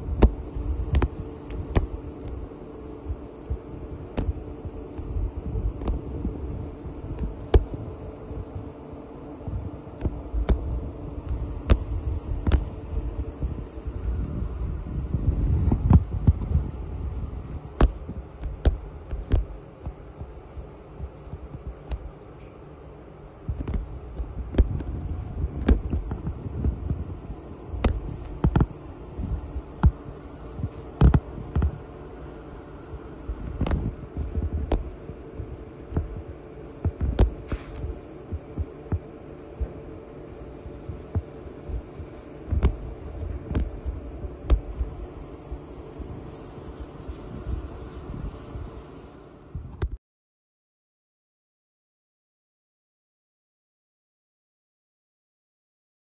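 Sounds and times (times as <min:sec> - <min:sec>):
low rumbling hum: 0:00.0 - 0:50.0.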